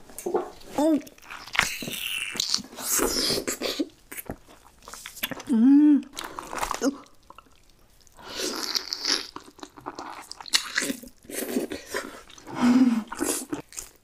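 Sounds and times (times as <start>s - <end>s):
person chewing wet food: 1.1s - 14.0s.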